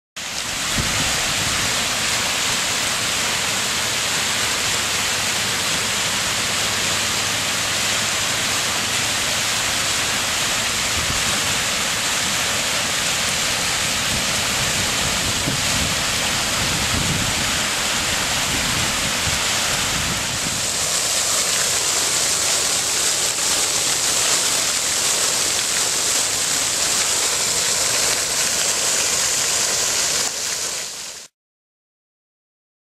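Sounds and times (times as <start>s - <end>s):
fountain water splashing: 0.2s - 31.3s.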